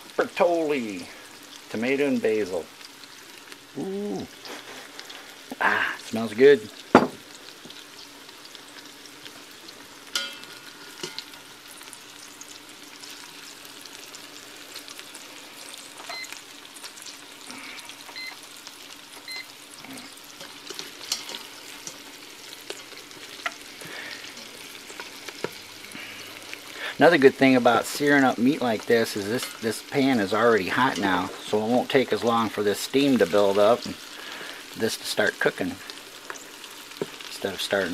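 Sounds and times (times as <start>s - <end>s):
meatballs sizzling in oil: 0.0s - 37.9s.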